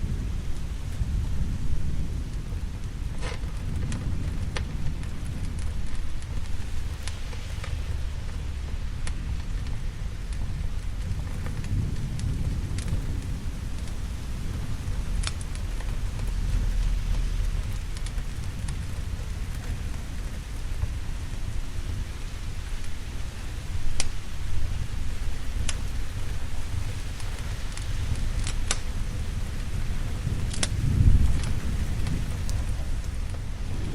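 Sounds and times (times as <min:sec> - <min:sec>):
steady rain: 0:00.0 - 0:33.9
thunder rumble: 0:00.0 - 0:33.9
wood fire crackling: 0:00.0 - 0:33.9.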